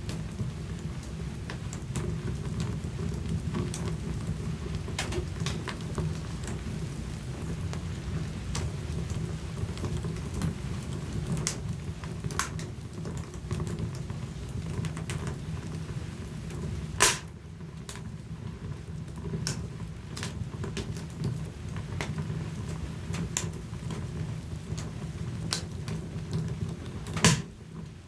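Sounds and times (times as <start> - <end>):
fire rumbling in fireplace: 0.0 - 28.0
wood fire crackles and pops: 0.0 - 28.0.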